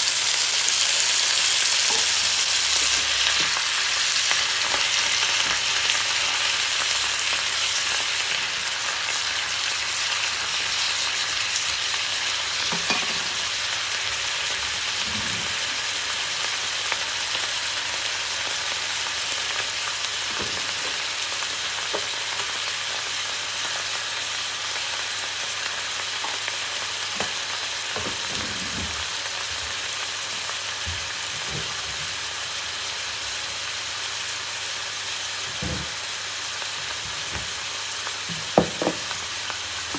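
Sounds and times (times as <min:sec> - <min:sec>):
greens sizzling in a pan: 0:00.0 - 0:39.9.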